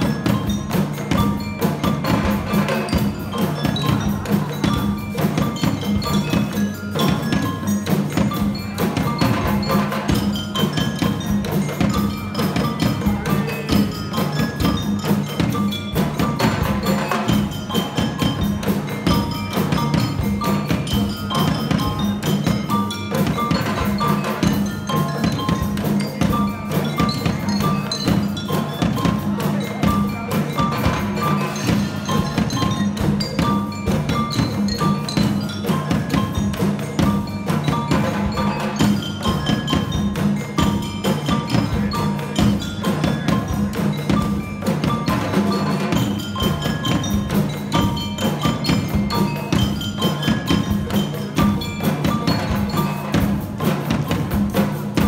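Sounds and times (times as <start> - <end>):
hand drums and snare drum: 0.0 - 55.0
mallet keyboard notes: 0.0 - 55.0.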